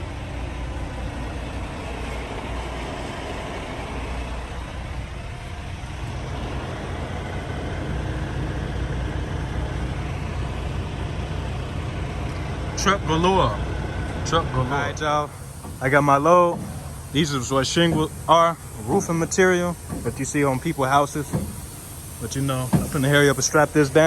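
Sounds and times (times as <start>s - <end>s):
truck engines idling: 0.0s - 24.0s.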